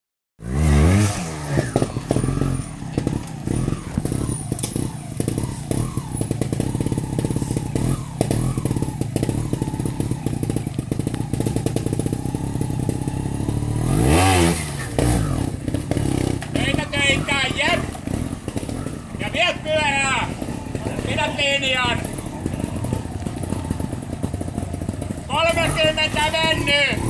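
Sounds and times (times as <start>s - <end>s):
motorcycle engine throttle blips: 0.4s - 27.0s.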